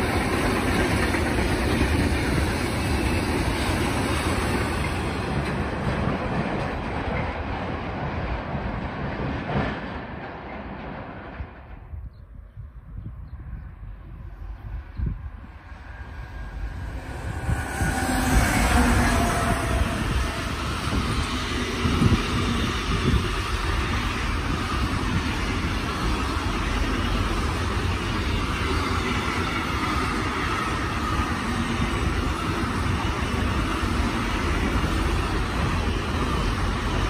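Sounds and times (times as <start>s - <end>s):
electric locomotive whine: 0.0s - 37.0s.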